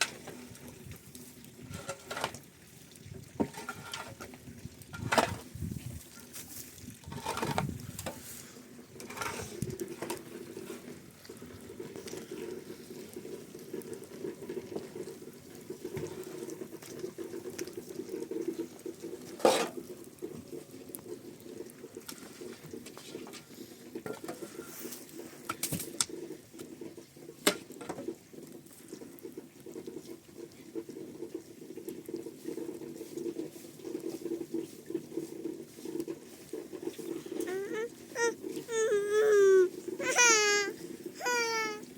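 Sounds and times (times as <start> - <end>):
water pattering: 0.0 - 41.9.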